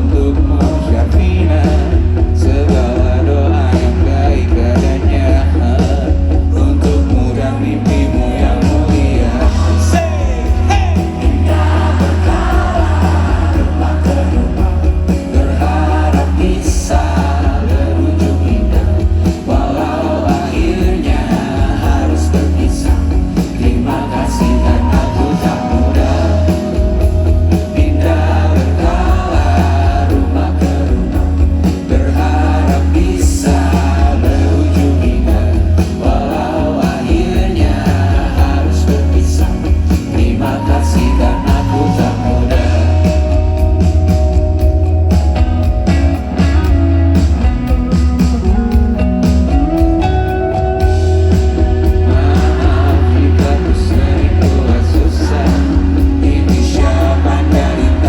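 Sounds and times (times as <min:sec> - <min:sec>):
person singing: 0:00.0 - 0:46.7, 0:47.6 - 0:58.0
live band music: 0:00.0 - 0:58.0
strong bass: 0:00.0 - 0:58.0.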